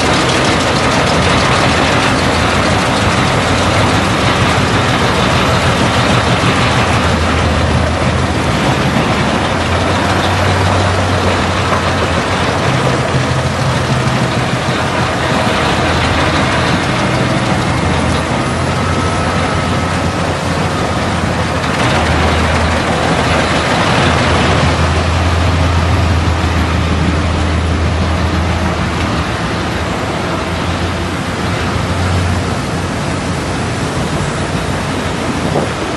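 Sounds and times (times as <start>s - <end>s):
wood chipper engine drone: 0.0s - 35.9s.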